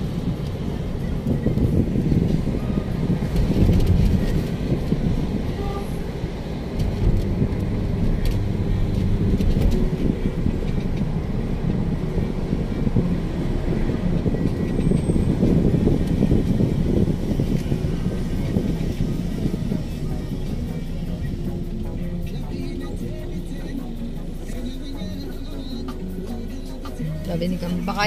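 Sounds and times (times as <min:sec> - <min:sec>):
car interior road rumble: 0:00.0 - 0:28.0.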